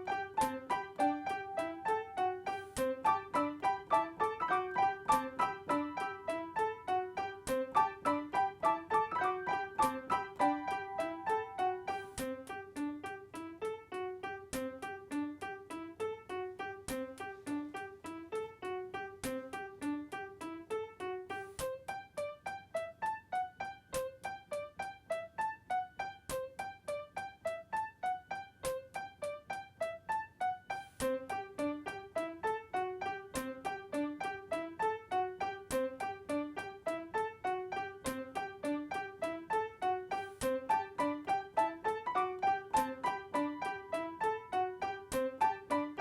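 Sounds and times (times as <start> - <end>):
piano music: 0.0 - 46.0.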